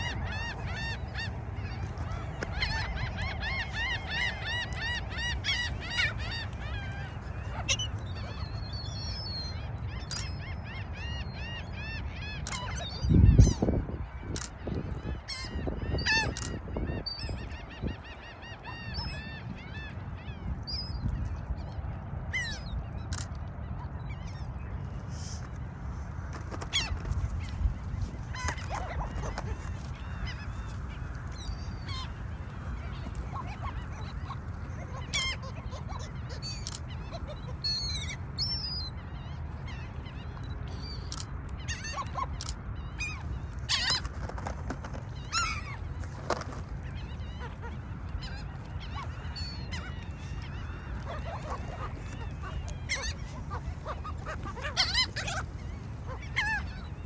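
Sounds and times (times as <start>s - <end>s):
gulls calling: 0.0s - 21.1s, 26.7s - 57.0s.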